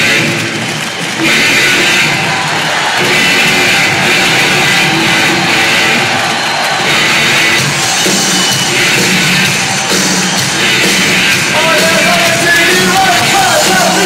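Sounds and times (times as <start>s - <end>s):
loud rock music over speakers: 0.0s - 14.0s.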